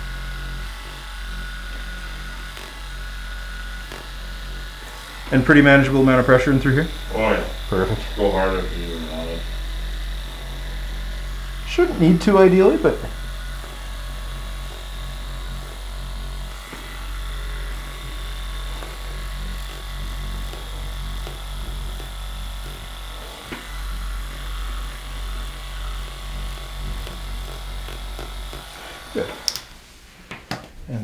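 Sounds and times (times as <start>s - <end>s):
massage gun buzzing: 0.0s - 30.8s.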